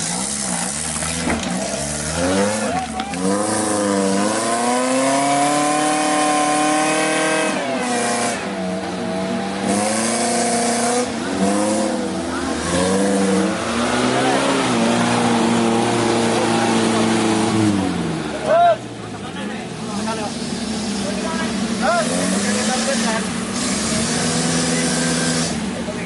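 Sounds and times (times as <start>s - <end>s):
jeep engine revving: 0.0s - 26.0s.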